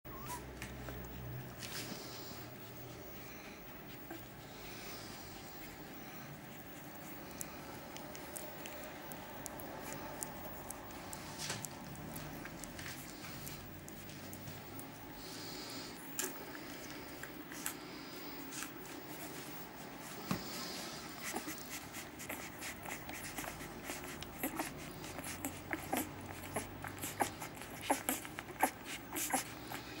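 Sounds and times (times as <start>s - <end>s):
puppies suckling: 0.1s - 30.0s.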